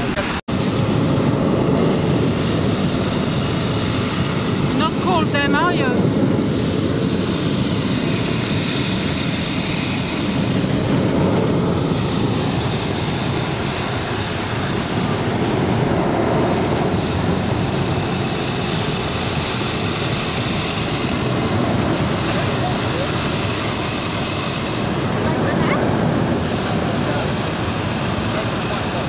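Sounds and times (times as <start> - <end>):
propane burner roaring: 0.0 - 29.0.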